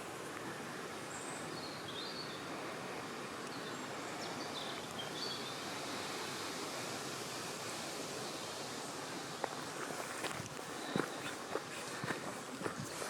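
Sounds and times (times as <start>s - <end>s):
wind rustling through trees: 0.0s - 13.0s.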